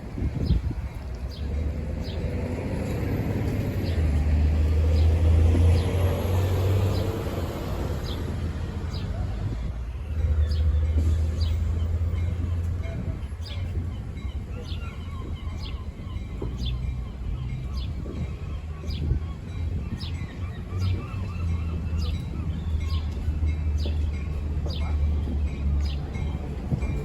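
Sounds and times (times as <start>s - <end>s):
diesel locomotive rumbling: 0.0s - 27.0s.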